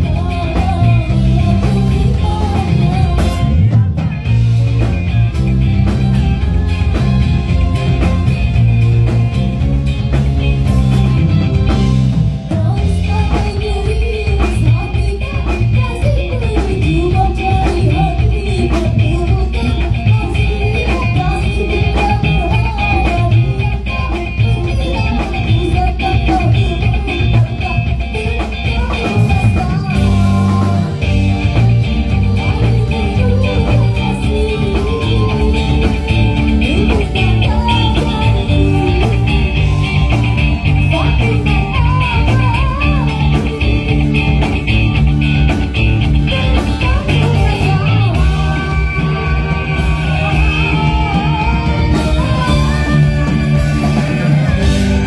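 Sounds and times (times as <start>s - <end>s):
person singing: 0.0s - 9.6s, 10.6s - 55.0s
rock band through pa system: 0.0s - 55.0s.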